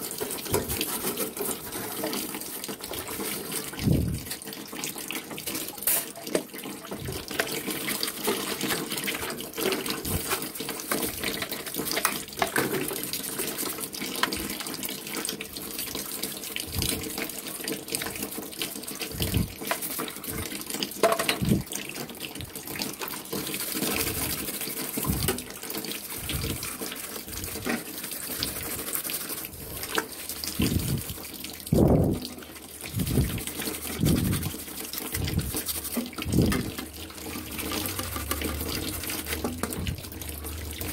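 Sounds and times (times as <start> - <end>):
brush scrubbing metal parts: 0.0 - 4.6, 5.2 - 6.3, 6.9 - 14.6, 18.2 - 40.9
water sloshing in basin: 0.0 - 40.9.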